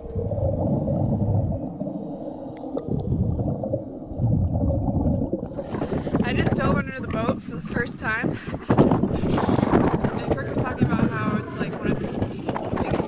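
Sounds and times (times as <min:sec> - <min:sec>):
underwater breathing bubbles: 0:00.0 - 0:13.0.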